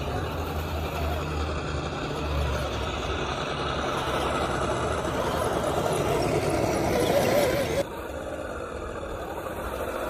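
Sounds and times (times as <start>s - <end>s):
truck engine sound from speaker: 0.0s - 10.0s.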